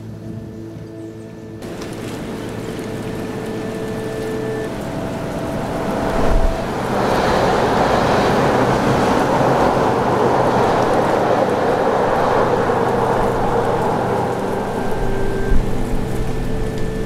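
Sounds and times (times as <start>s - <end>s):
gusty blizzard wind: 0.0s - 17.0s.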